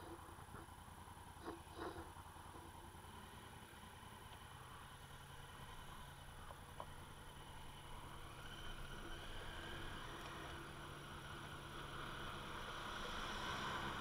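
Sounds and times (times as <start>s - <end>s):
motorcycle engine hum: 0.0s - 14.0s
road and wind noise: 0.0s - 14.0s.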